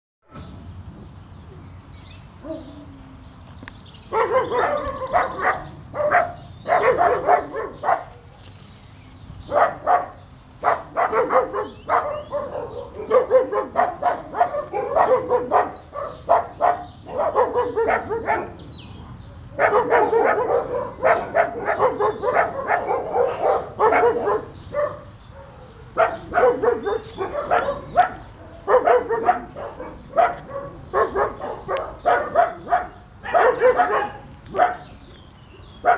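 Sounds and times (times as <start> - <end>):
puppy barking and yapping: 4.1 - 8.4, 9.5 - 34.8.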